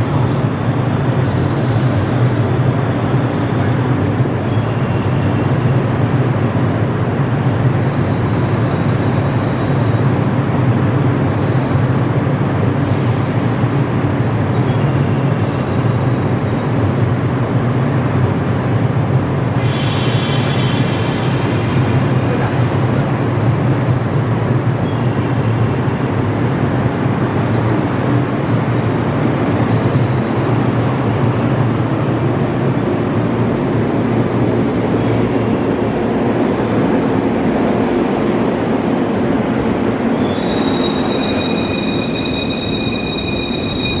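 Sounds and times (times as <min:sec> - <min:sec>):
electric train departing: 0:00.0 - 0:44.0.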